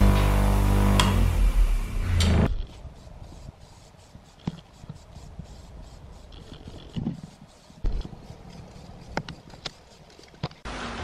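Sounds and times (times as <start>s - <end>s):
spray can hissing: 0.0s - 10.4s.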